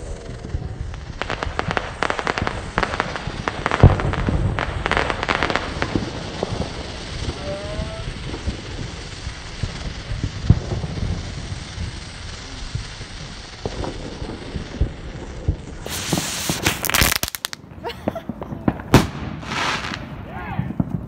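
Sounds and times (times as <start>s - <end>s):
snake firework fizzing: 0.0s - 20.1s
fireworks crackling and popping: 0.0s - 21.0s.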